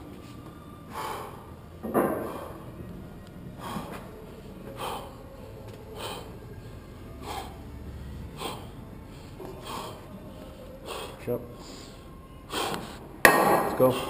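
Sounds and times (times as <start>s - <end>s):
person breathing hard: 0.9s - 2.8s, 3.6s - 13.2s.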